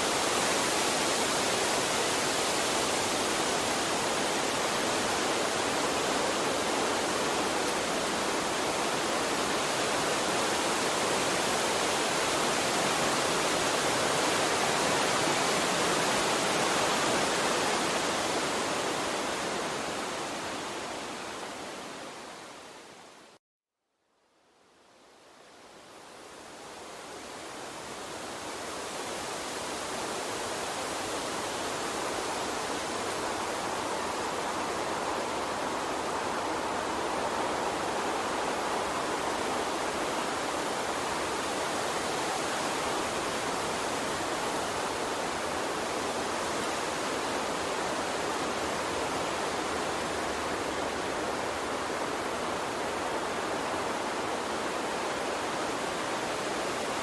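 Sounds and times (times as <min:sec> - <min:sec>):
water stream rushing: 0:00.0 - 0:23.4, 0:25.7 - 0:57.0.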